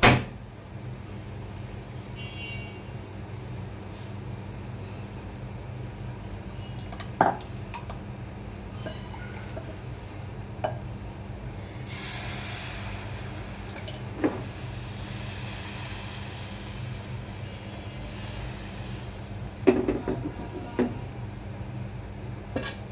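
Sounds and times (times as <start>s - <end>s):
batter sizzling in pan: 0.0s - 20.3s.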